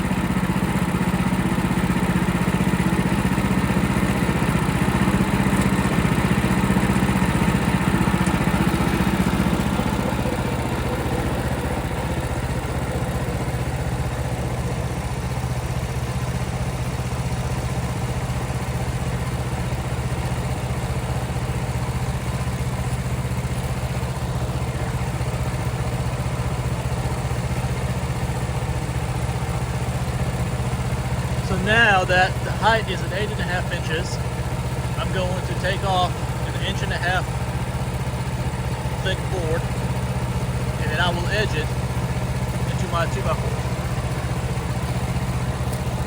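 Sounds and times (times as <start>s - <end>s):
small gasoline engine running: 0.0s - 46.0s.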